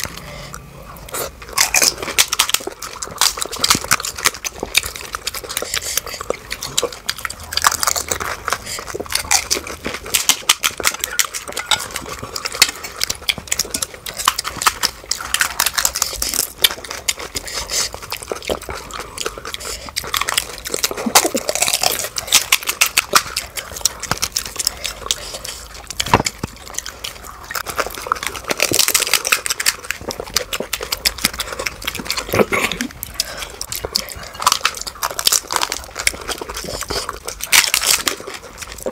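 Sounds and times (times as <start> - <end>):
crisp shells crunching: 1.2 - 38.9.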